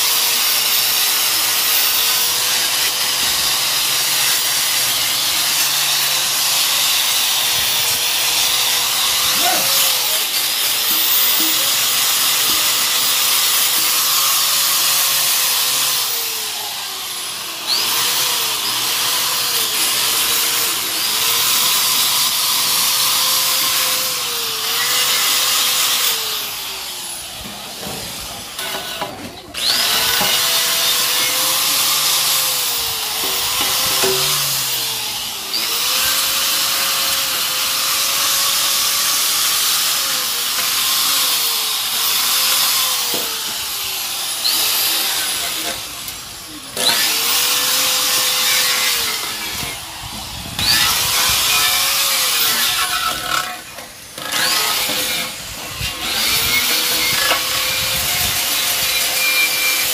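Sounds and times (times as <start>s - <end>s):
power tool whining on metal: 0.0s - 59.9s.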